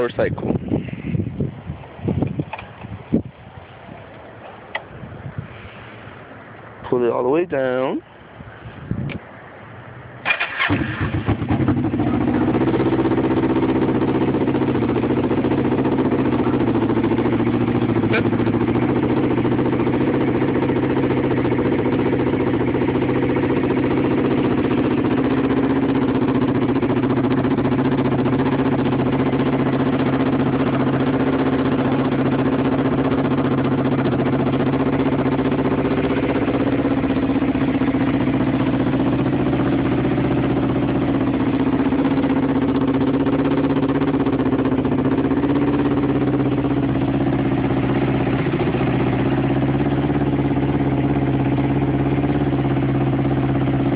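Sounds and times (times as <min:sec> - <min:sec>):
motorcycle engine fast idling: 0:10.3 - 0:53.9.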